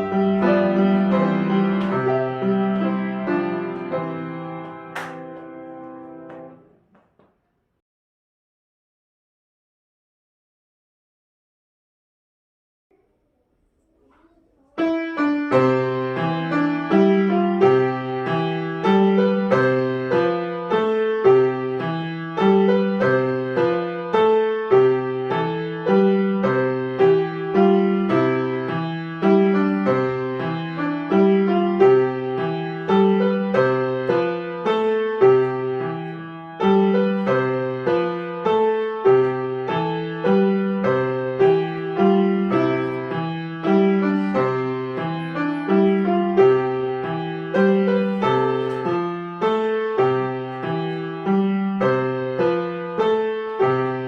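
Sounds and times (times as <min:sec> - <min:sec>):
solo piano piece: 0:00.0 - 0:06.8, 0:12.9 - 0:54.0.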